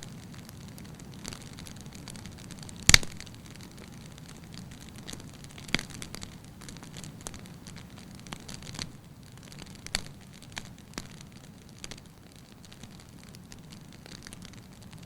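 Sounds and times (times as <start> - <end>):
fire crackling in fireplace: 0.0 - 15.0.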